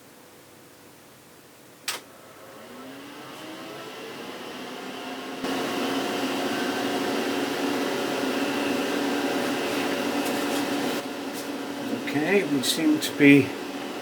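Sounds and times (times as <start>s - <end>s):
computer fans and drives whirring: 1.8s - 14.0s.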